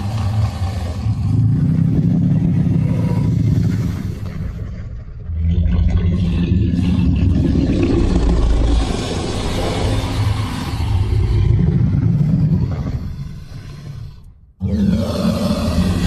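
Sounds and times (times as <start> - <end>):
deep rumbling monster sound: 0.0 - 16.0.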